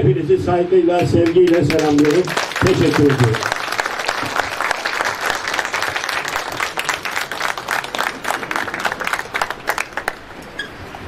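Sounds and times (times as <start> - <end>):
crowd applauding: 1.2 - 10.4.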